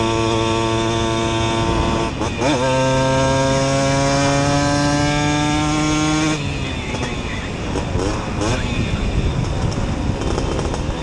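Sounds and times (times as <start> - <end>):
two-stroke moped engine running hard: 0.0 - 11.0.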